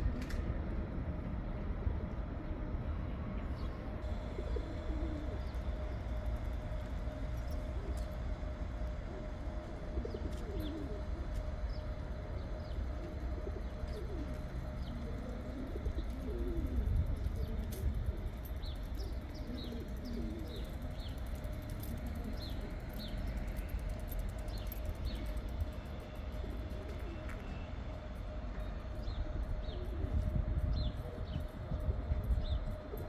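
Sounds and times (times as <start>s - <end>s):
constant hum: 0.0s - 33.0s
steady low rumble: 0.0s - 33.0s
pigeons cooing: 4.0s - 27.6s, 29.2s - 33.0s.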